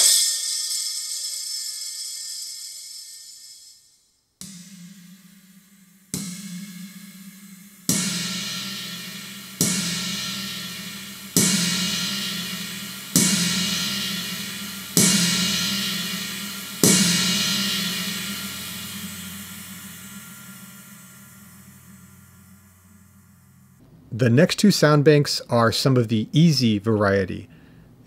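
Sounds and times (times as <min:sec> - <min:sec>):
electronic drum cymbal-like wash: 0:00.0 - 0:03.8, 0:04.4 - 0:23.8.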